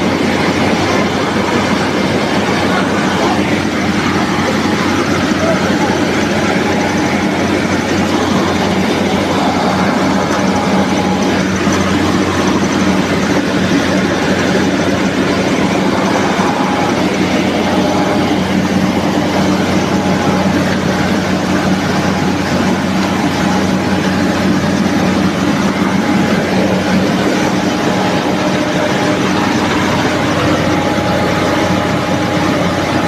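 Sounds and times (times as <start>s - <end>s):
rice milling machine running: 0.0s - 33.0s.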